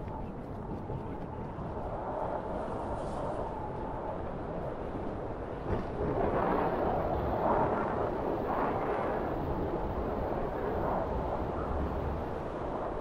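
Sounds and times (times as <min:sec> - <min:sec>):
strong wind blowing on microphone: 0:00.0 - 0:13.0.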